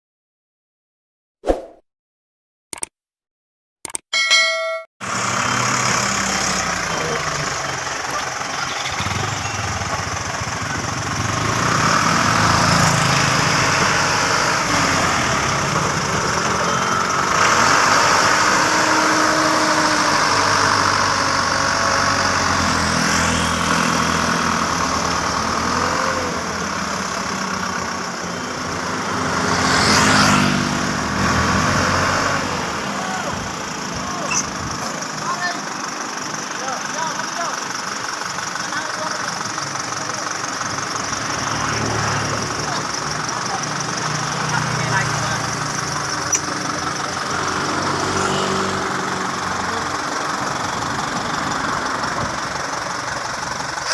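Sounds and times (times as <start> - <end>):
dump truck engine revving: 5.0 - 53.9.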